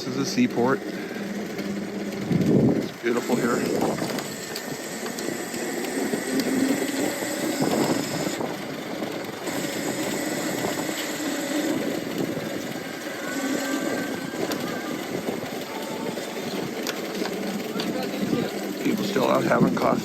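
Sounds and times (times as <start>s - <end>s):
electric motor humming and whining: 0.0s - 20.0s.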